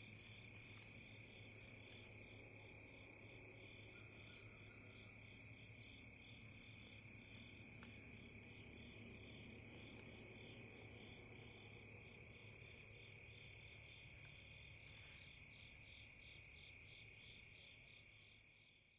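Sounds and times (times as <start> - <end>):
soft pulsing insect call: 0.0 - 18.9.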